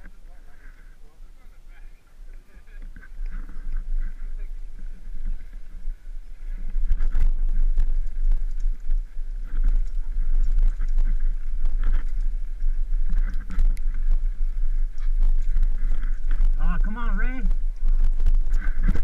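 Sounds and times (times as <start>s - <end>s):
wind rushing over microphone: 2.0s - 19.0s.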